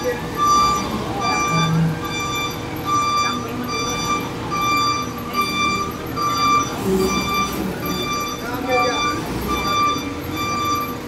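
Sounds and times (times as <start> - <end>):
forklift backup alarm beeping: 0.0 - 11.0
forklift engine rumble: 0.0 - 11.0.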